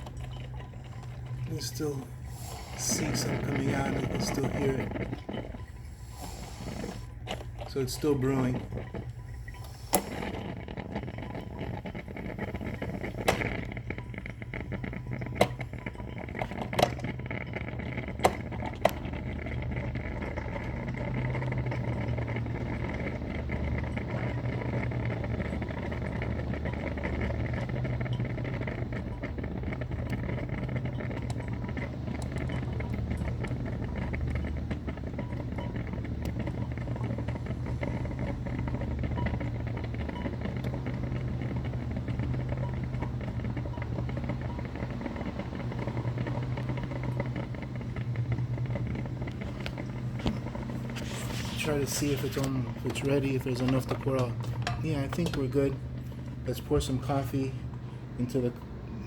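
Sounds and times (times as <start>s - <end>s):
coffee maker humming: 0.0s - 59.0s.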